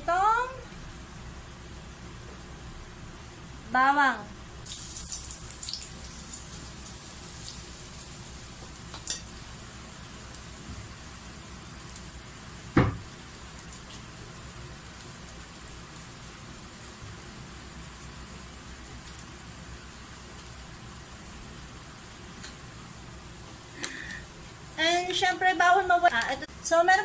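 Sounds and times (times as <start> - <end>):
garlic sizzling in hot oil: 4.6 - 27.0.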